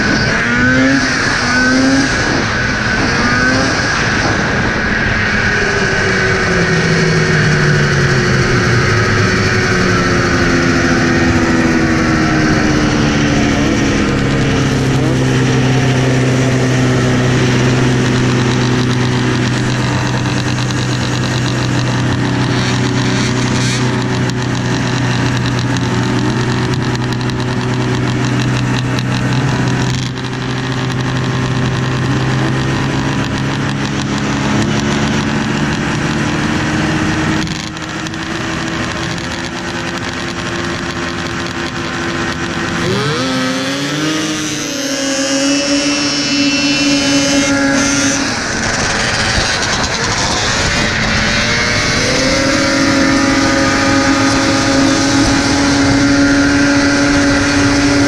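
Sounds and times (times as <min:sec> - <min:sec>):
snowmobiles revving and accelerating: 0:00.0 - 0:58.0
snowmobiles idling: 0:05.6 - 0:58.0.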